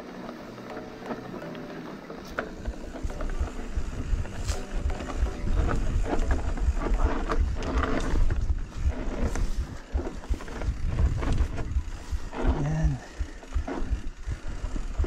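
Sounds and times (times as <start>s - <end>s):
bike clicks and knocks: 0.0s - 15.0s
wind rumble on microphone: 2.6s - 15.0s.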